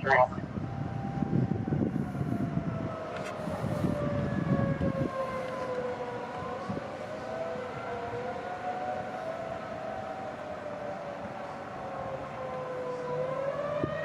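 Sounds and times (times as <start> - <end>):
tornado warning siren wailing: 0.0 - 14.0.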